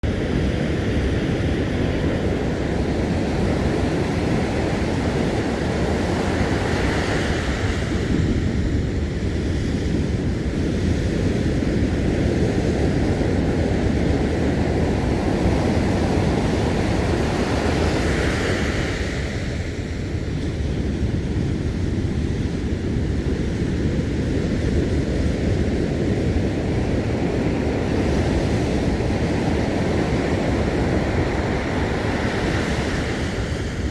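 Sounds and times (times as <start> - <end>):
wind buffeting microphone: 0.0 - 33.9
waves breaking on beach: 0.1 - 33.9.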